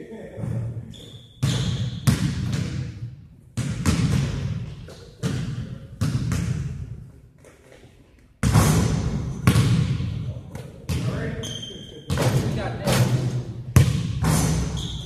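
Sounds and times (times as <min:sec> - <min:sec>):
basketballs bouncing with echo: 0:00.4 - 0:15.0.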